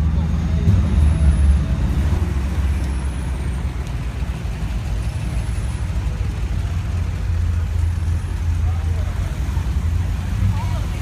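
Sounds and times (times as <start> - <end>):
car engines rumbling past: 0.0 - 11.0.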